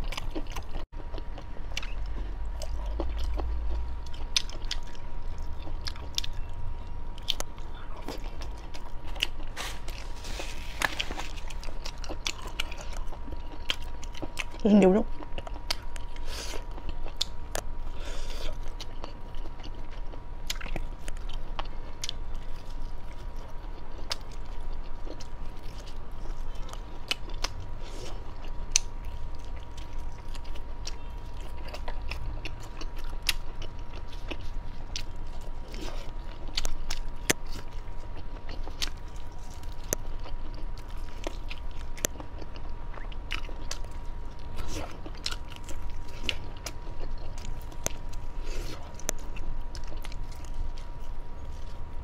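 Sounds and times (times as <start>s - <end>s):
close chewing and biting: 0.0s - 52.0s.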